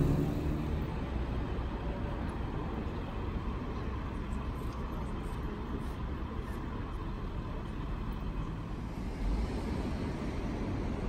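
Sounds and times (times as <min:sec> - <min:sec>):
low rumble of city traffic: 0:00.0 - 0:11.0.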